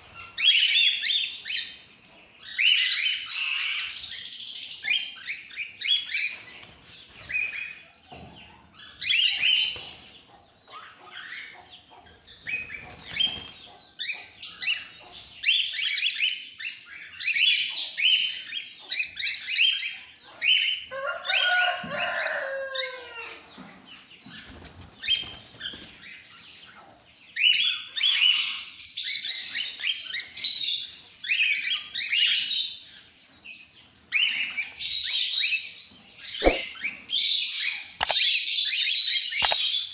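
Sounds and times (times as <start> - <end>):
cockatiels chirping and chattering: 0.0 - 20.9, 24.3 - 37.0.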